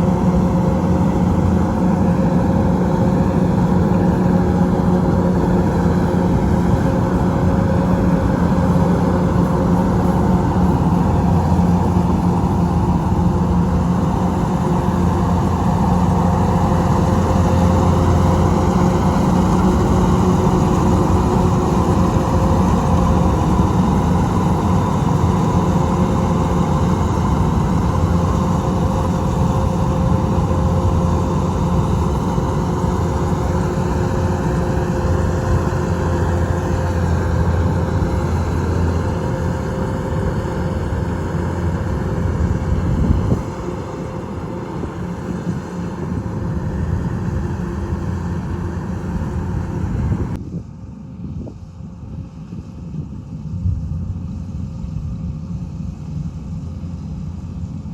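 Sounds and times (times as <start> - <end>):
harvesting machine engine running: 0.0 - 50.4.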